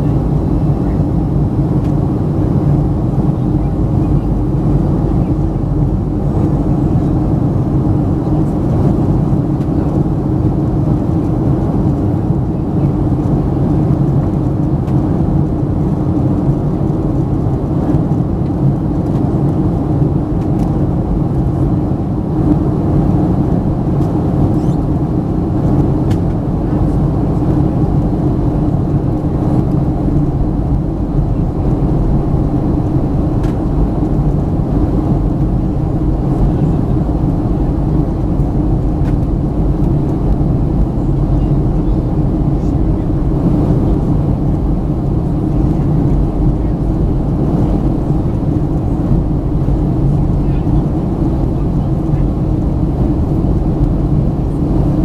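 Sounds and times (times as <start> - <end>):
airplane cabin drone: 0.0 - 55.0.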